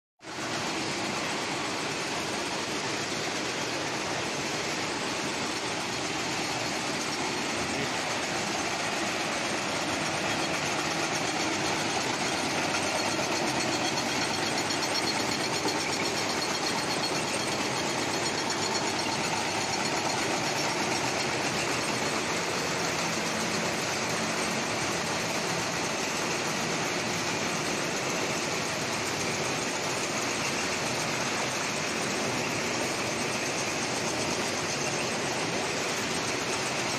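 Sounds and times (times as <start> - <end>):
processing machinery running: 0.3 - 36.9.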